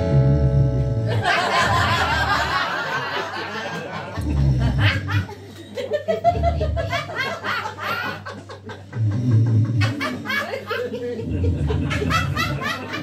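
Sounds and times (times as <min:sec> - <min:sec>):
audience laughing: 0:01.0 - 0:13.0.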